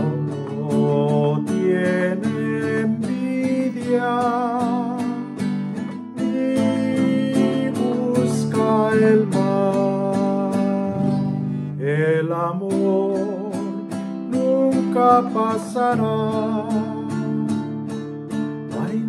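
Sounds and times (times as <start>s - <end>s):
man singing hymn: 0.0s - 5.4s, 6.2s - 17.7s, 18.7s - 19.0s
nylon-string guitar strumming: 0.0s - 19.0s.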